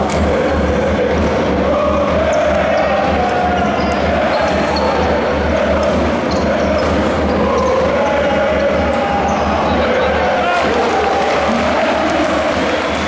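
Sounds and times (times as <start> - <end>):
crowd chanting: 0.0 - 13.0.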